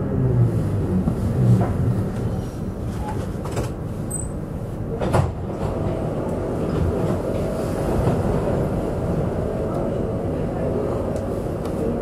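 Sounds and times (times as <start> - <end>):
wheels rumbling on track: 0.0 - 12.0.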